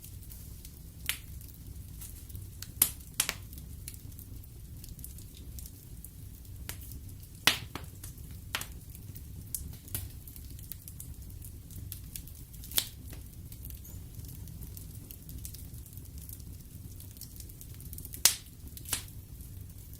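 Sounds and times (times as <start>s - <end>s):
fire popping: 0.0s - 19.9s
loud fire cracks: 0.0s - 19.9s
rumble of flames: 0.0s - 19.9s.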